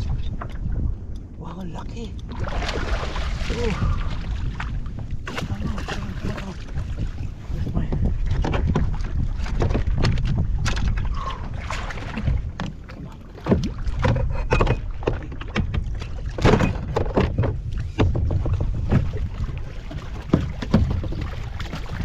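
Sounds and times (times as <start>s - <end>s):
wind buffeting microphone: 0.0s - 22.0s
gear knocking against boat: 3.8s - 22.0s.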